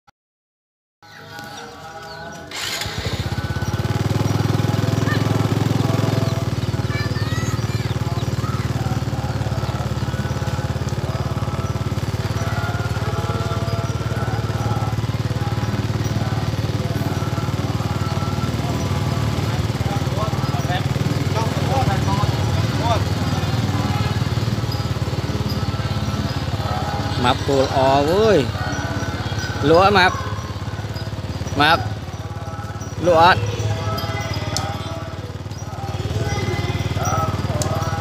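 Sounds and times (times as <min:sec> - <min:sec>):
faint voices: 0:01.0 - 0:38.0
small motorcycle engine running: 0:01.1 - 0:38.0.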